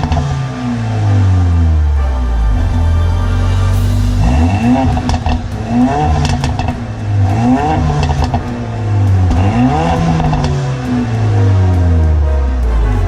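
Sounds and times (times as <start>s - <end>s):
car engine revving: 0.0s - 13.0s
exhaust popping and crackling: 0.0s - 13.0s.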